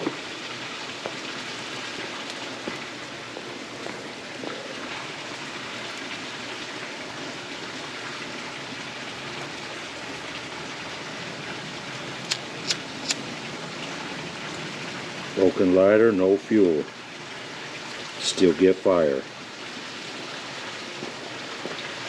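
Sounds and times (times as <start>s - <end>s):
fire crackling: 0.0s - 15.6s, 16.6s - 22.0s.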